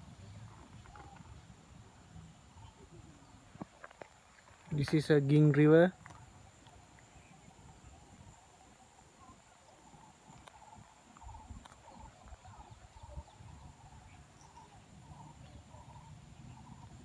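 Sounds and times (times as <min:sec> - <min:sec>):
insects calling: 0:00.0 - 0:17.0.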